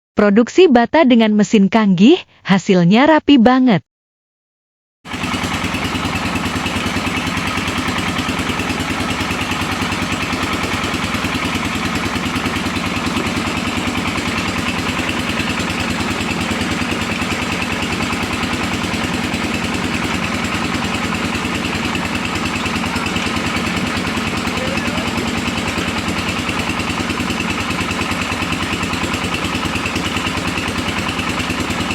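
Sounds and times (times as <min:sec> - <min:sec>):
brick press machine pulsing: 0:05.1 - 0:31.9.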